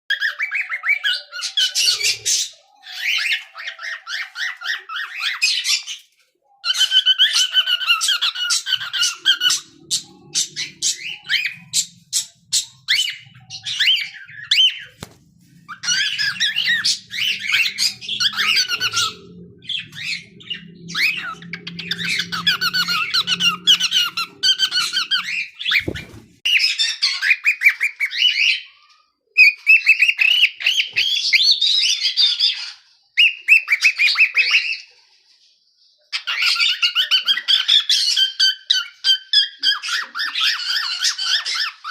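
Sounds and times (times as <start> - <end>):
cockatiel chirping and whistling: 0.1 - 6.0, 6.6 - 28.7, 29.4 - 34.8, 36.2 - 41.9.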